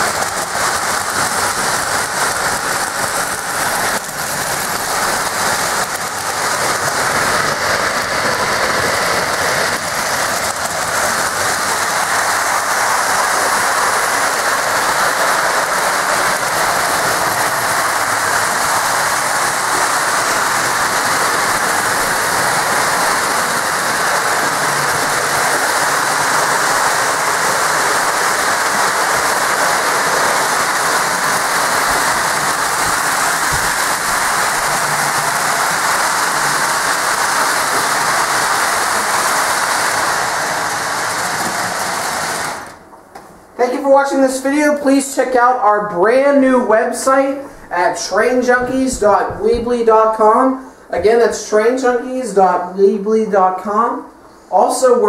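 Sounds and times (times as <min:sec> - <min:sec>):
model trains rolling: 0:00.0 - 0:52.4.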